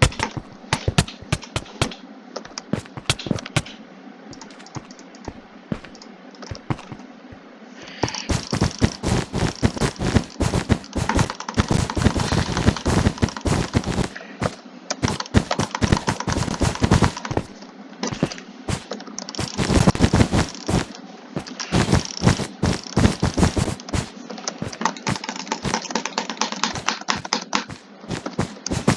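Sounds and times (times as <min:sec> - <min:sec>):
rapid irregular clicking: 0:00.0 - 0:07.0, 0:08.0 - 0:17.5, 0:19.4 - 0:25.9, 0:26.7 - 0:28.9.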